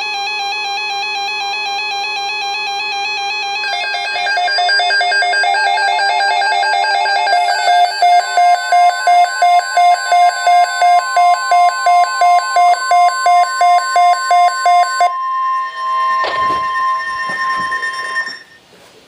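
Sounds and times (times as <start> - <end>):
steady alarm tone: 0.0 - 18.6
rapid electronic beeping: 3.0 - 18.6.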